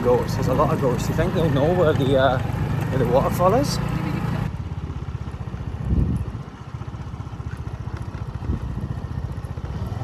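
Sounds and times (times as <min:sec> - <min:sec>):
moped engine putter: 0:00.0 - 0:04.5, 0:05.2 - 0:10.0.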